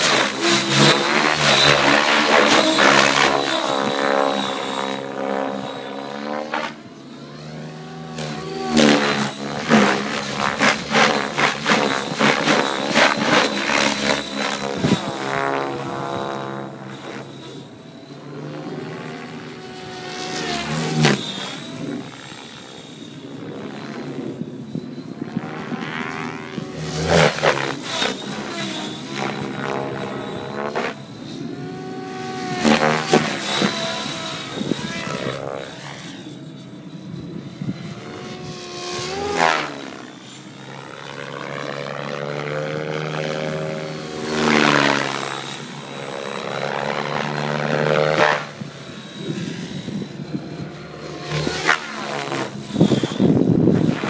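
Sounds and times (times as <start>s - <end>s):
rc helicopter rotor whine: 0.0s - 54.0s.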